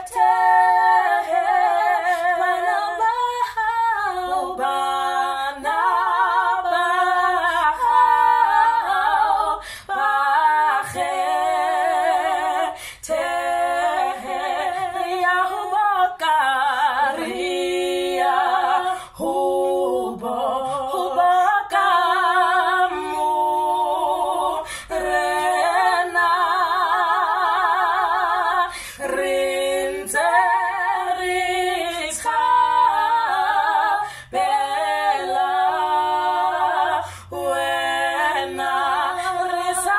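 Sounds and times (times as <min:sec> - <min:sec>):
women singing in harmony: 0:00.0 - 0:39.9.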